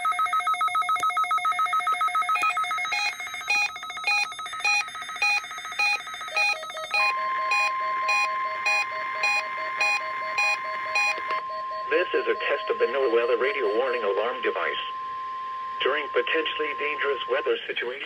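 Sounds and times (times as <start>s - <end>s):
rapid electronic alert beeping: 0.0s - 14.5s
steady warning alarm tone: 0.0s - 18.0s.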